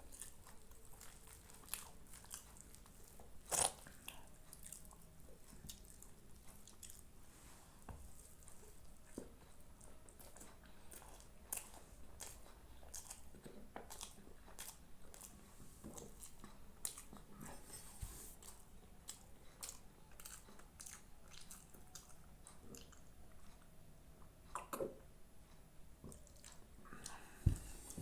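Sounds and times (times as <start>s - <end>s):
person chewing food: 0.0s - 25.0s, 26.0s - 28.0s.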